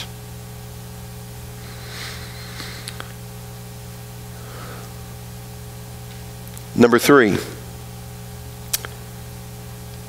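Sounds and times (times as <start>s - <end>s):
electrical hum and hiss: 0.0s - 10.0s.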